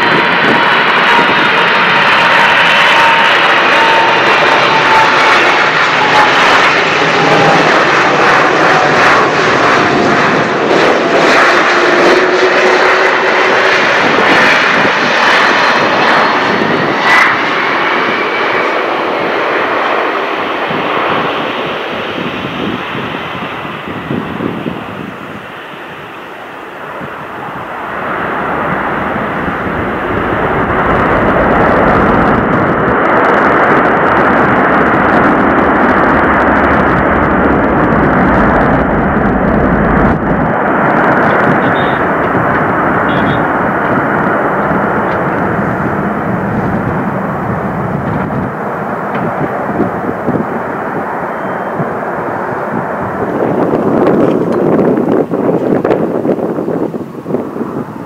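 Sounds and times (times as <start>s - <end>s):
jet plane landing: 0.0s - 58.0s.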